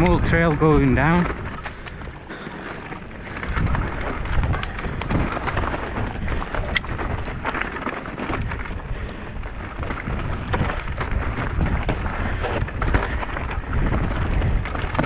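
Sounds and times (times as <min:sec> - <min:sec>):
bike rattling with small knocks: 0:00.0 - 0:15.0
bike tyres on loose stones: 0:00.0 - 0:15.0
wind noise on microphone: 0:00.0 - 0:15.0.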